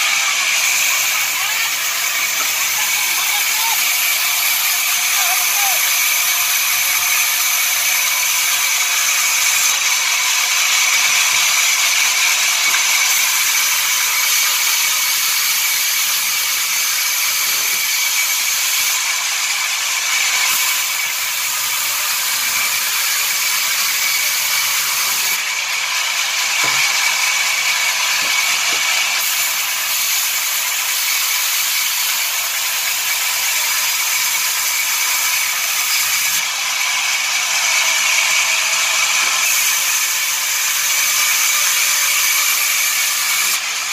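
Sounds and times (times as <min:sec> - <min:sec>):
sawmill saw whining: 0:00.0 - 0:43.9.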